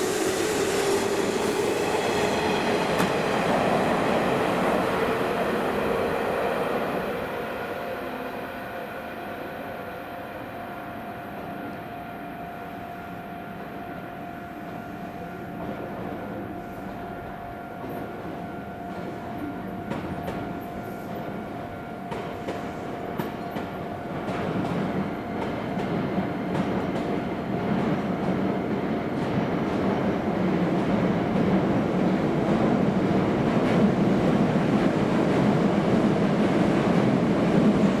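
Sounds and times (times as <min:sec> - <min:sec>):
electric train rumbling on tracks: 0:00.0 - 0:38.0.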